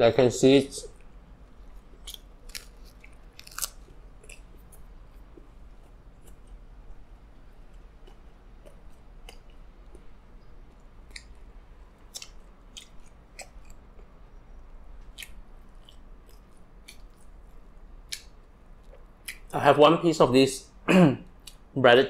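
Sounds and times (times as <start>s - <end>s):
chewing crunchy pizza: 0.9s - 14.2s, 15.0s - 19.5s.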